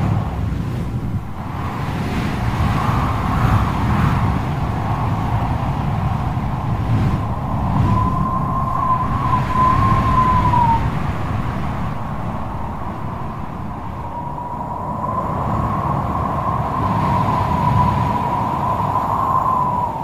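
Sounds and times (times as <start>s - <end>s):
low rumbling gusts: 0.0s - 20.0s
wind howling whistle: 0.0s - 20.0s.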